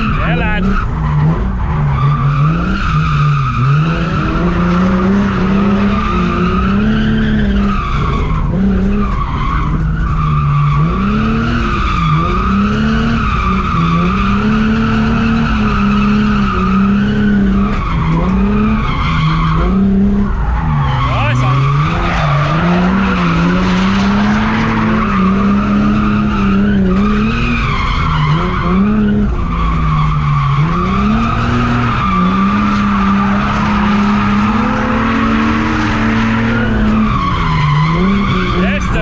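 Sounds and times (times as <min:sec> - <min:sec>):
car engine revving high: 0:00.0 - 0:39.0
tyres skidding: 0:00.0 - 0:39.0.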